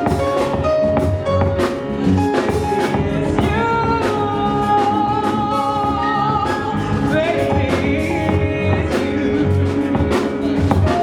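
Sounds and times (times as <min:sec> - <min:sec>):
live band music with drums: 0:00.0 - 0:11.0.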